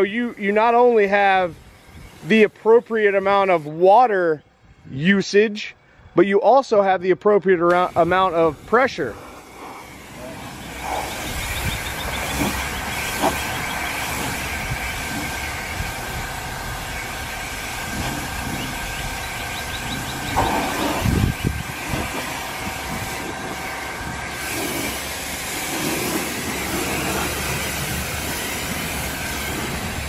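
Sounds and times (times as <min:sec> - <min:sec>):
pressure washer spraying water: 0:00.0 - 0:03.7, 0:07.7 - 0:30.0.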